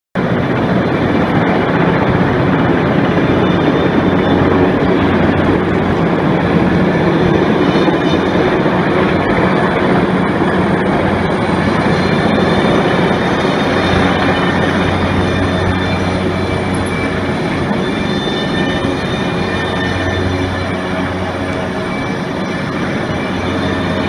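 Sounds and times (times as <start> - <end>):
helicopter hovering: 0.2 - 24.0.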